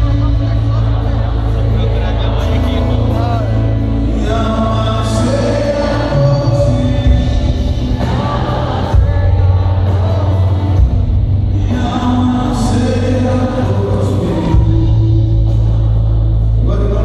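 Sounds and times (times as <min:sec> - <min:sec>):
singing: 0:00.0 - 0:17.0
steady bass line: 0:00.0 - 0:17.0
worship band playing: 0:00.0 - 0:17.0.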